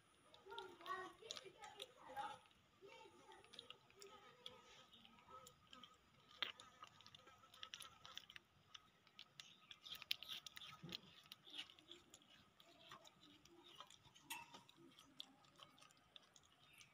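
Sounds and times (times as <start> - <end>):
monkeys clicking and tapping in cage: 0.0 - 16.9.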